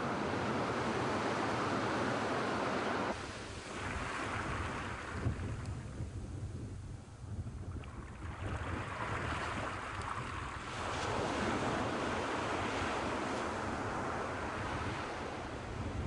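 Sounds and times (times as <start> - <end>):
surf washing up a beach: 0.0 - 16.0
wind rumble on microphone: 2.7 - 16.0.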